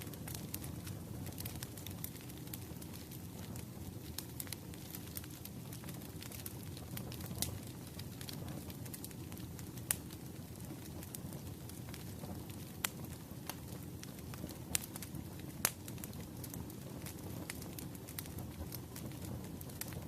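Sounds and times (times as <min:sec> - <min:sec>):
low rush of flame: 0:00.0 - 0:20.0
wood crackling and popping: 0:00.0 - 0:20.0.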